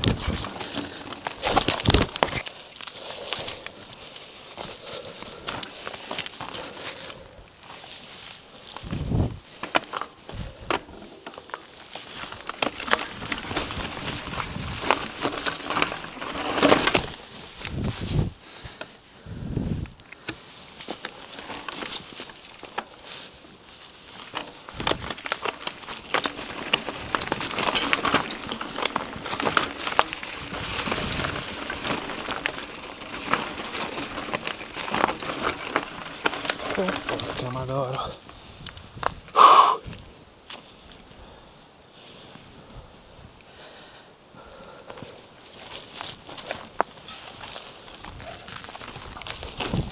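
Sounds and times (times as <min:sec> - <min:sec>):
tyres crunching over stones and leaves: 0:00.0 - 0:18.8, 0:20.2 - 0:39.3, 0:44.8 - 0:49.9
bike knocking and rattling: 0:00.0 - 0:39.3, 0:44.4 - 0:49.9.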